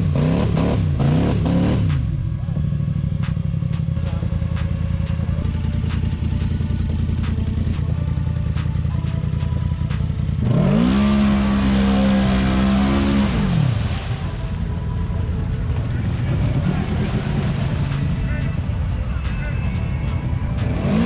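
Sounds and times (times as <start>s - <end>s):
atv engine revving: 0.0s - 14.2s, 16.0s - 21.0s.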